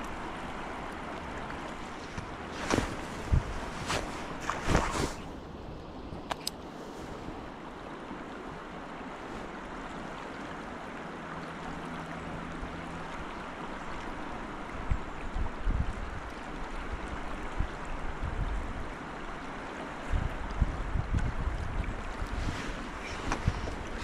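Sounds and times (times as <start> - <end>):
river water rushing: 0.0 - 15.3, 18.8 - 20.6, 21.8 - 24.0.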